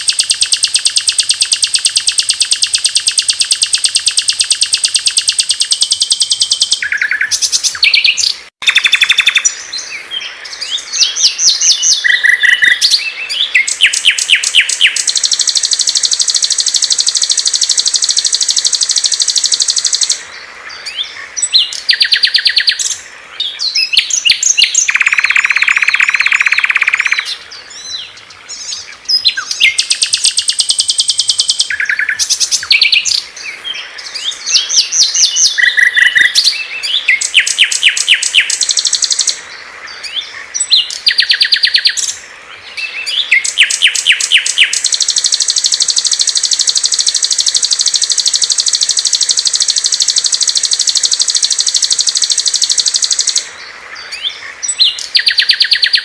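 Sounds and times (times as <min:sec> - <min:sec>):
songbirds trilling and chirping: 0:00.0 - 0:56.0.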